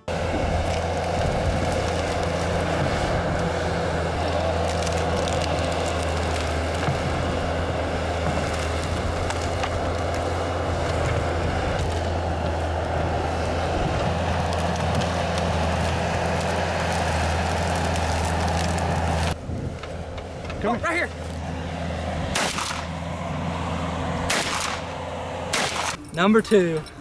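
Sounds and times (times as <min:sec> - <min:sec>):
loader diesel engine running: 0:00.0 - 0:27.0
branches cracking: 0:00.1 - 0:26.0.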